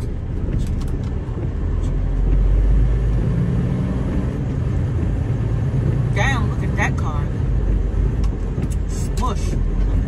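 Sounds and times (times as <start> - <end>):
truck engine deep rumble: 0.0 - 10.0.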